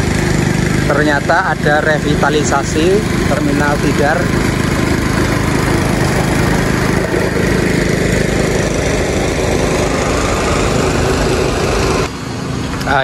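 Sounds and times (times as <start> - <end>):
loud engine running: 0.0 - 13.0.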